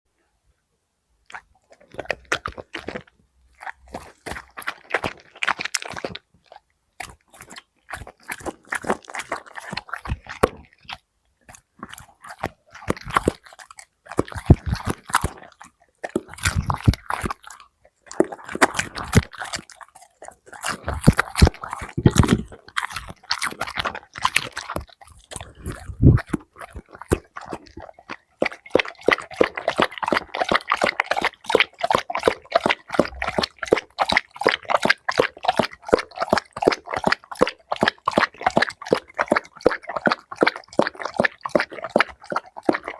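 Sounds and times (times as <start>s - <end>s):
dog crunching food: 1.3s - 42.9s.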